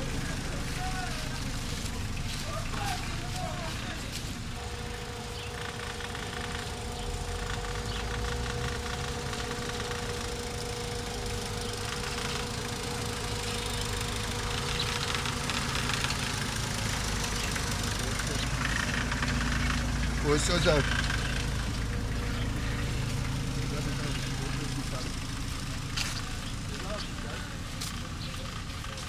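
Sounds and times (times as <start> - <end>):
thin steady whine: 0.0 - 27.3
van engine rumbling: 0.0 - 29.0.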